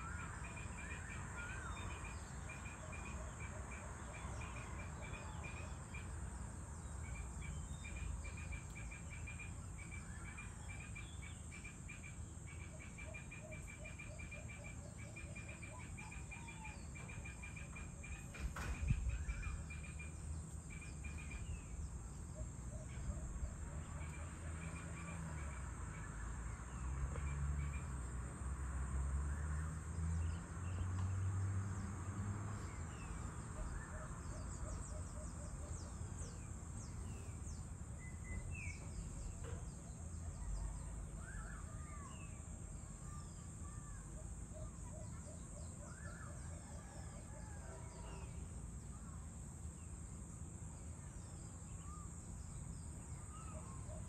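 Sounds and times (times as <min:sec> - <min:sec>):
high insect hum: 0:00.0 - 0:54.0
insect chirps: 0:00.0 - 0:54.0.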